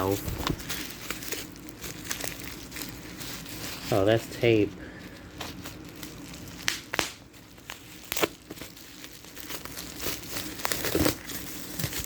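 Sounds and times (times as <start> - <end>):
bubble wrap crinkling and tearing: 0.0 - 12.0.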